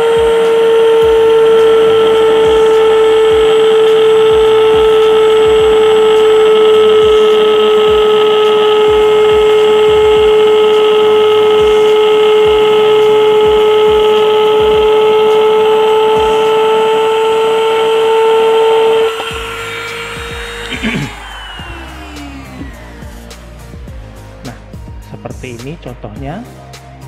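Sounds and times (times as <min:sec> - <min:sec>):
grinder cutting pipe: 0:00.0 - 0:25.8.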